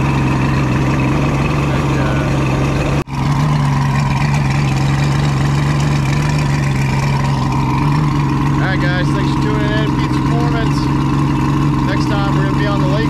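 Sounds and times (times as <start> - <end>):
speedboat engine running: 0.0 - 13.0.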